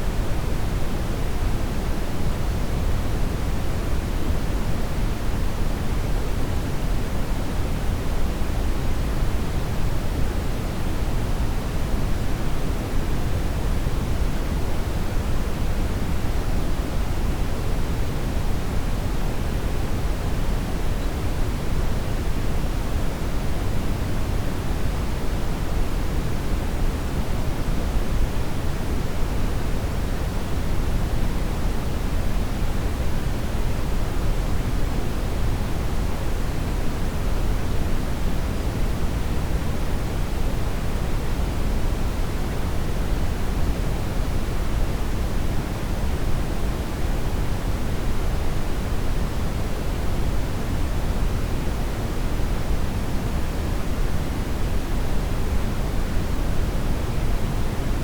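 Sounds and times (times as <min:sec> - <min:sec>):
steady brown noise: 0:00.0 - 0:58.0.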